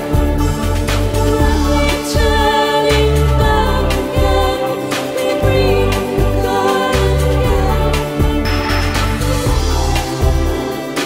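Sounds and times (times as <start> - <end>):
low bass: 0.0 - 10.9.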